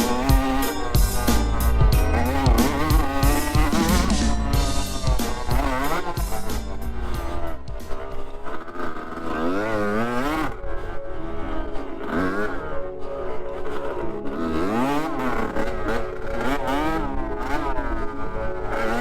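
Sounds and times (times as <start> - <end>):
dirt bike engine revving: 0.0 - 12.8, 13.6 - 19.0
background music: 0.0 - 19.0.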